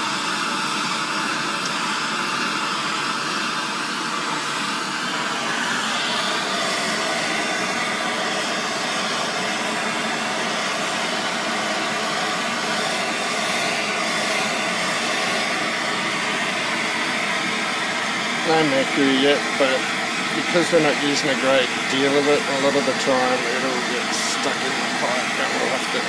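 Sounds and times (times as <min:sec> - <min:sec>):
blowtorch hissing: 0:00.0 - 0:26.0.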